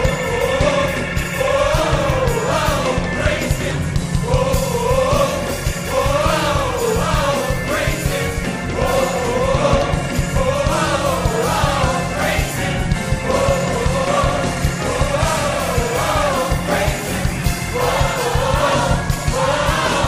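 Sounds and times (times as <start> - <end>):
gospel choir singing: 0.0 - 20.0
instrumental accompaniment: 0.0 - 20.0.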